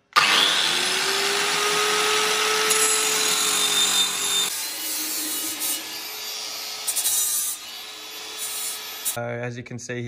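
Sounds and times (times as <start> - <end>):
angle grinder cutting metal: 0.1 - 9.2.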